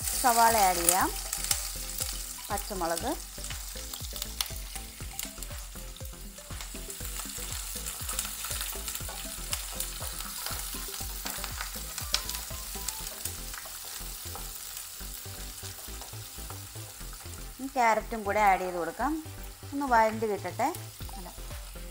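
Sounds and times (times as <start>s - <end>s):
onions sizzling in oil: 0.0s - 21.9s.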